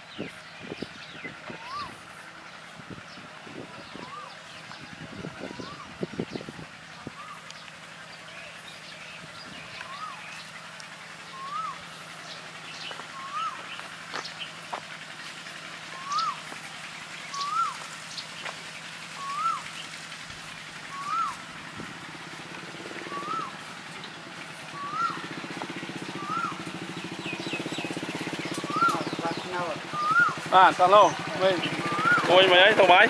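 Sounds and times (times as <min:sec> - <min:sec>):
bird calling: 0:00.0 - 0:33.0
steady motor hum: 0:00.0 - 0:33.0.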